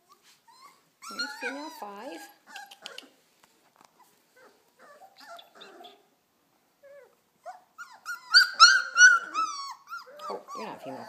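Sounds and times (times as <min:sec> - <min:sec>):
puppy whining and yelping: 0:00.0 - 0:03.3, 0:03.9 - 0:06.2, 0:06.8 - 0:11.0.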